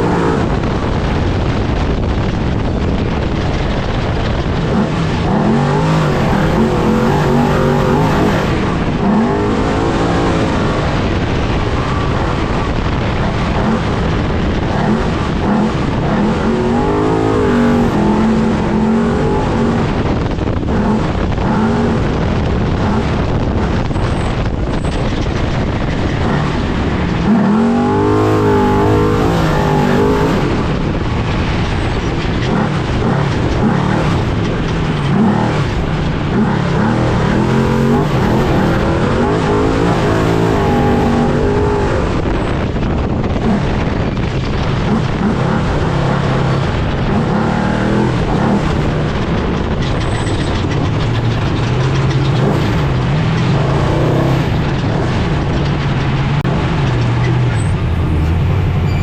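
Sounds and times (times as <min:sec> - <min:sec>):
chassis and ground noise: 0:00.0 - 0:59.0
truck engine revving: 0:00.0 - 0:59.0.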